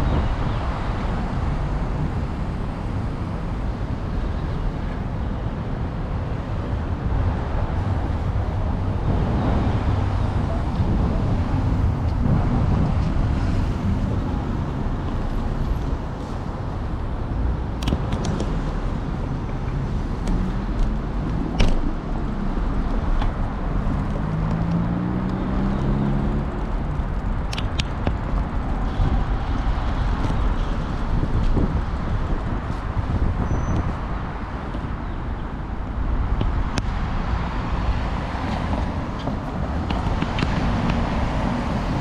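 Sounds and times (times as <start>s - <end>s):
low steady traffic rumble: 0.0s - 42.0s
motor vehicles passing: 0.0s - 42.0s
vehicle engine: 0.0s - 42.0s.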